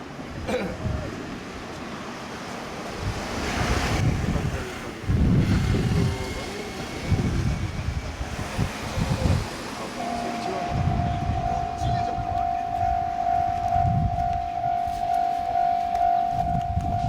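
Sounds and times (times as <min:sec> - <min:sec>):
steady outdoor hiss: 0:00.0 - 0:17.0
wind buffeting microphone: 0:02.8 - 0:17.0.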